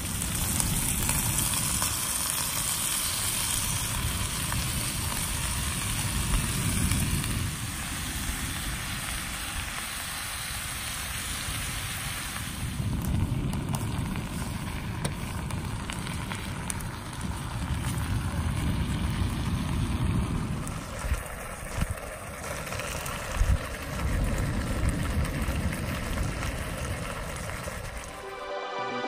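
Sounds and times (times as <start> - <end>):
food sizzling in a skillet: 0.0 - 23.6
wind rumbling on microphone: 0.0 - 28.2
gas burner: 0.0 - 28.3.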